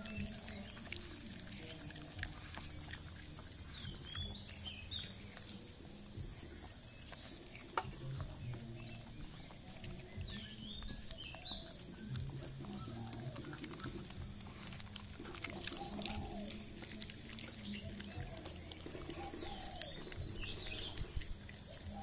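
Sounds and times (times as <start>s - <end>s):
dog chewing wetly: 0.0s - 22.0s.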